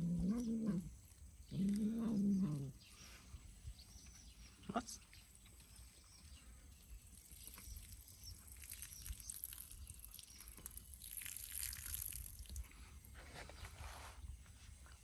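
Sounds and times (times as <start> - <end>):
kittens eating clicks and rustling: 0.8 - 13.8.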